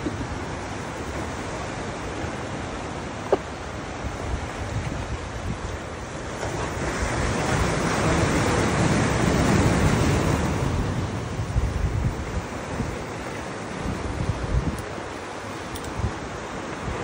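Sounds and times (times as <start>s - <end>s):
surf washing onto rocky shore: 0.0s - 17.0s
wind on microphone: 0.0s - 17.0s.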